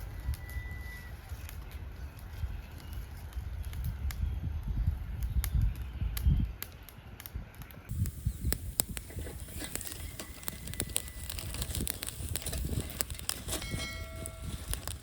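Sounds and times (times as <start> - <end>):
wood fire crackling: 0.1 - 15.0.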